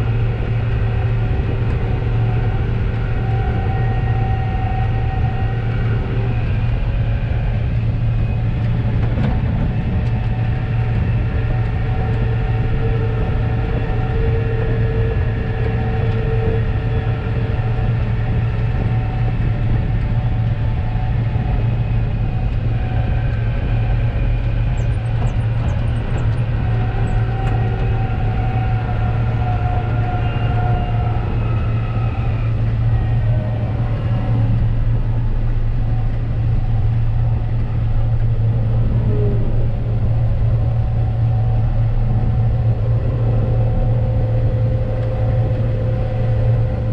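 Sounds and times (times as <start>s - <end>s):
low engine drone: 0.0s - 46.9s
machinery whining: 0.0s - 46.9s.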